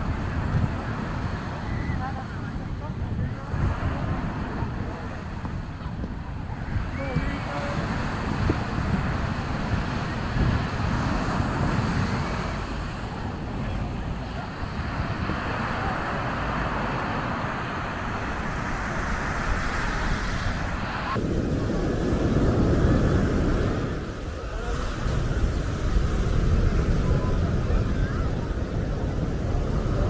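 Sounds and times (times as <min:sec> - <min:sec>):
surf washing onto beach: 0:00.0 - 0:30.0
wind buffeting microphone: 0:00.0 - 0:30.0.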